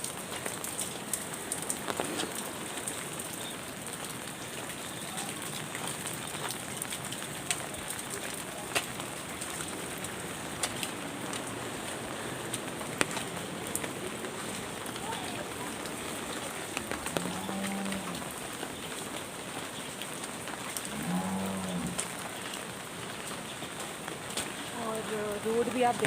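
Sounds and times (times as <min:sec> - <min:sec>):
light rain hiss: 0:00.0 - 0:26.0
raindrop ticks: 0:00.0 - 0:26.0.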